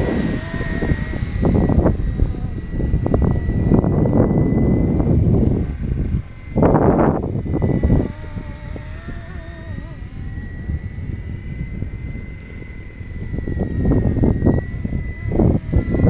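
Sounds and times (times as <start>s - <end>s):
rc helicopter high whine: 0.0s - 16.0s
wavering tone: 0.0s - 16.0s
wind buffeting microphone: 0.0s - 16.0s.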